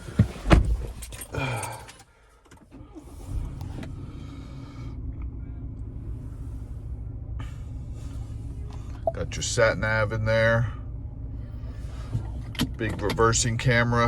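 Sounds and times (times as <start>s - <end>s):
diesel engine starting and idling: 1.2s - 14.0s.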